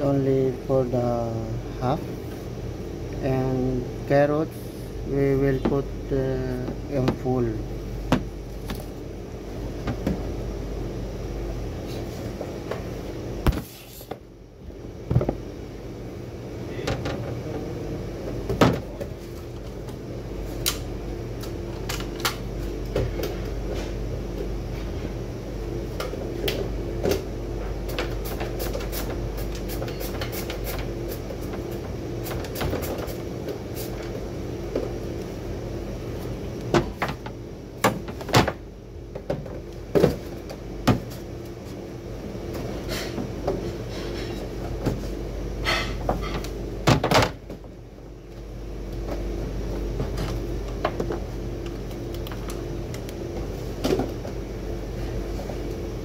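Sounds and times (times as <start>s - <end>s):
steady appliance hum: 0.0s - 56.0s.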